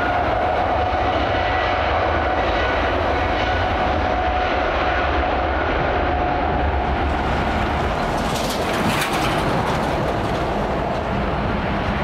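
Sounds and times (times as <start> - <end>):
jet engine whine: 0.0 - 12.0.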